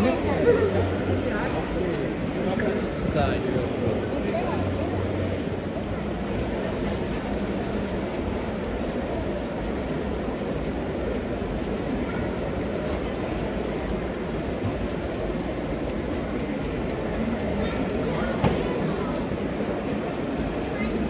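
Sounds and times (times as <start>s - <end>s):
busy hall din: 0.0s - 21.0s
model train wheels clicking: 0.0s - 21.0s.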